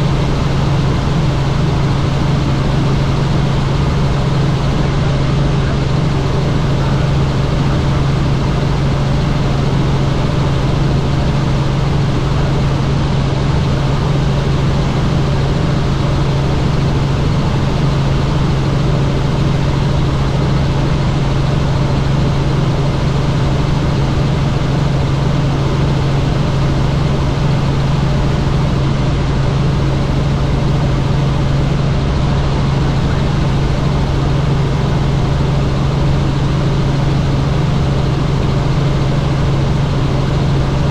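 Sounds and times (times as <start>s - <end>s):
helicopter rotor drone: 0.0s - 40.9s.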